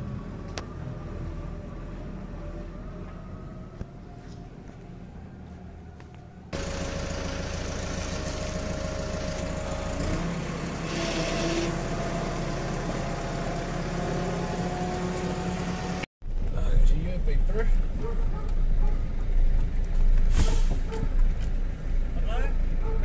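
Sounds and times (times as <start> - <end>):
engine running with whine: 0.0 - 23.0.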